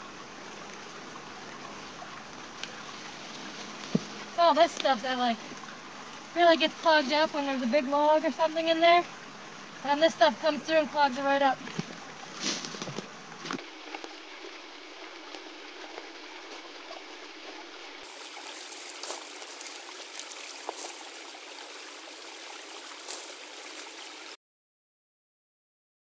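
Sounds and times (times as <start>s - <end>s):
creek water running: 0.0s - 24.4s.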